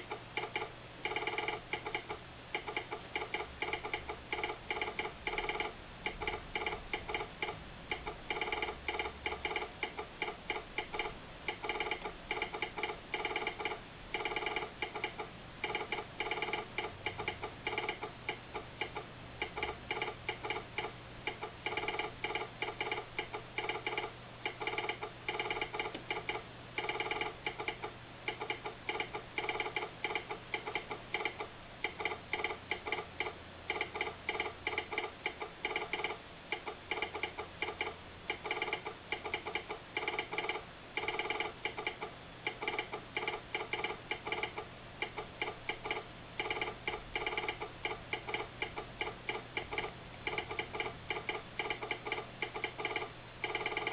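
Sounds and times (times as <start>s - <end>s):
telegraph sounder clicking: 0.0s - 53.9s.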